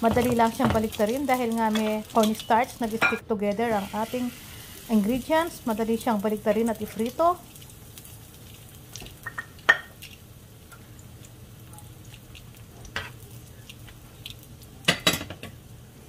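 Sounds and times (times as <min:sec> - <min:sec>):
food sizzling in pan: 0:00.0 - 0:16.0.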